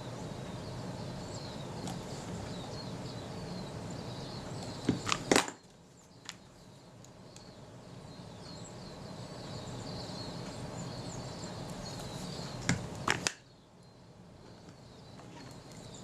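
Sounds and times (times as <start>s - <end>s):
birds twittering faintly: 0.0s - 16.0s
low background rush: 0.0s - 16.0s.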